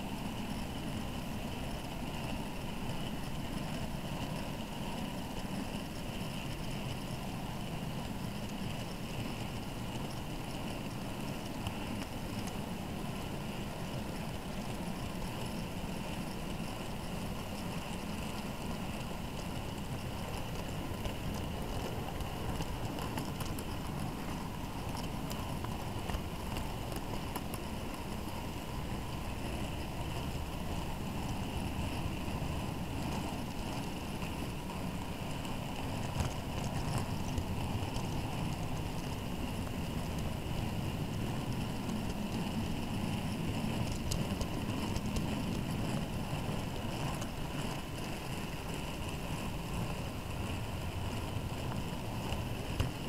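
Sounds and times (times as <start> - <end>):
model train wagons rattling on track: 1.5 - 53.0.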